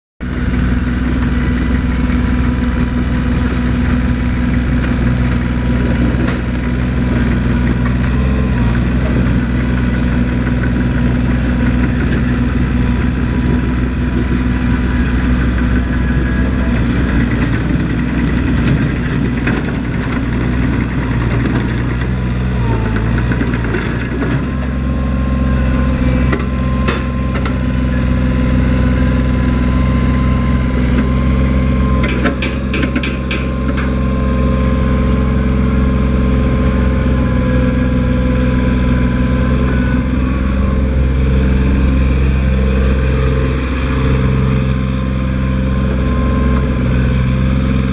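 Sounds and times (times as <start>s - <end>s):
diesel backhoe engine running: 0.2s - 47.9s.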